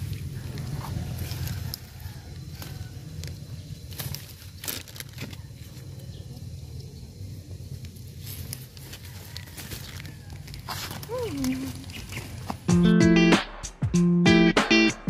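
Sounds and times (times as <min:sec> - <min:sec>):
low steady rumble: 0:00.0 - 0:12.6
plant leaves rustling and crackling: 0:00.0 - 0:12.7.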